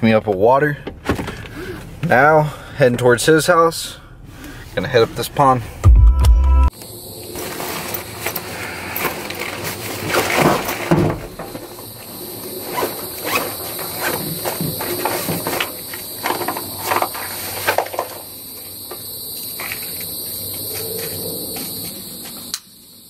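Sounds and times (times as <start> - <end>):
insects droning: 0.0 - 5.7, 6.7 - 23.0.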